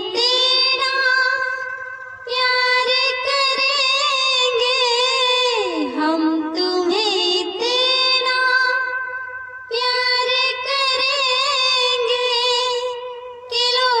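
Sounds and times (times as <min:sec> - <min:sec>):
woman singing with vibrato: 0:00.0 - 0:14.0.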